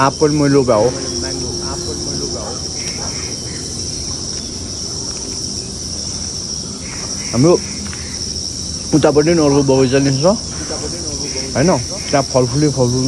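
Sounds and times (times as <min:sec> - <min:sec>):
insects chorus shrill drone: 0:00.0 - 0:13.0.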